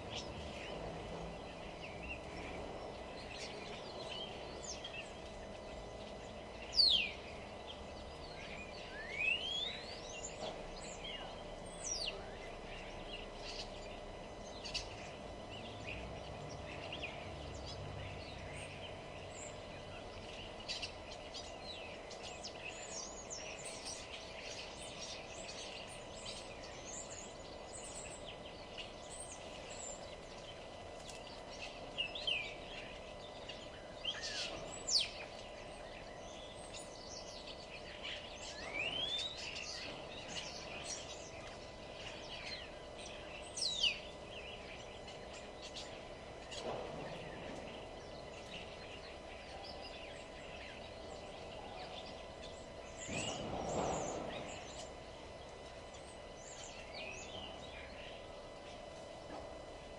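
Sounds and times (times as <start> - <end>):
low background hum: 0.0 - 59.9
wild birds singing and calling: 0.0 - 59.9.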